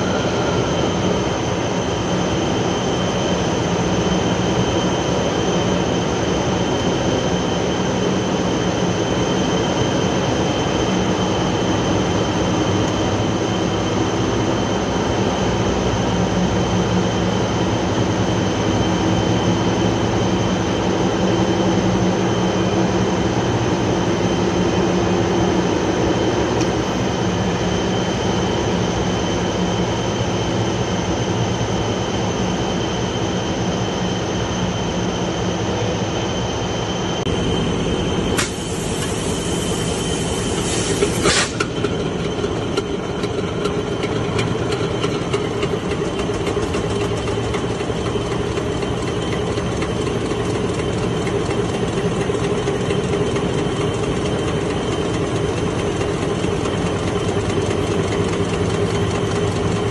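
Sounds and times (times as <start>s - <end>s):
diesel generator running: 0.0s - 59.9s
high-pitched whine: 0.0s - 59.9s.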